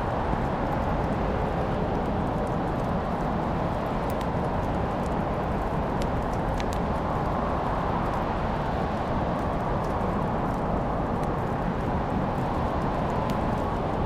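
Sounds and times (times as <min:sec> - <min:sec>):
crackling fire: 0:00.0 - 0:14.0.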